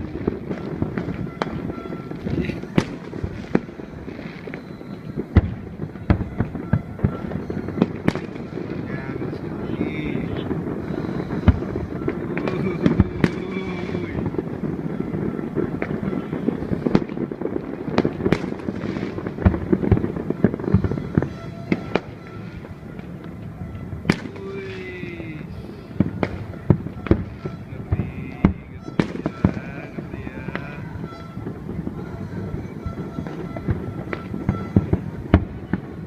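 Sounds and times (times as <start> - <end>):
crowd noise: 0.0 - 36.0
fireworks bangs and cracks: 0.0 - 36.0.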